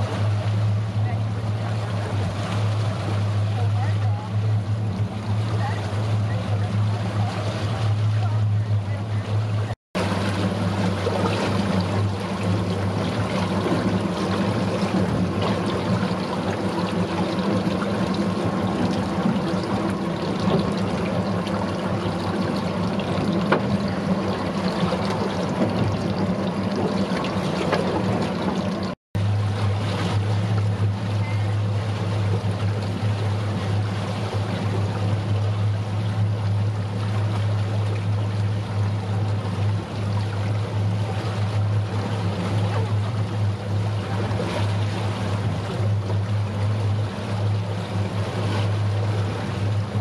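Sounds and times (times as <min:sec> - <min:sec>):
boat engine humming: 0:00.0 - 0:50.0
wind: 0:00.0 - 0:50.0.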